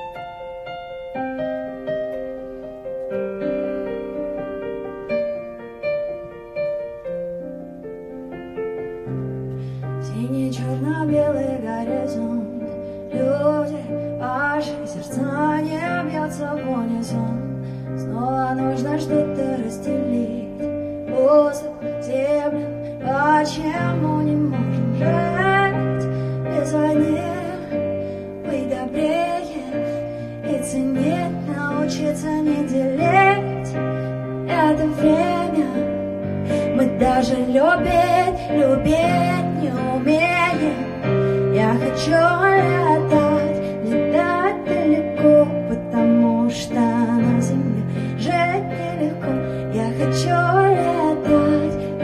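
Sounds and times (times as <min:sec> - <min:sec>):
woman singing: 0:09.9 - 0:52.0.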